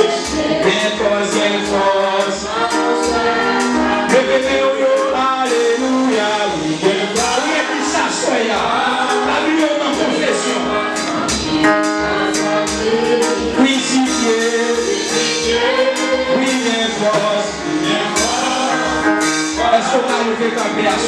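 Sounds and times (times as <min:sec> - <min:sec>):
man singing into a microphone: 0:00.0 - 0:02.6, 0:04.1 - 0:11.2, 0:12.6 - 0:21.0
band with drums and cymbals: 0:00.0 - 0:21.0.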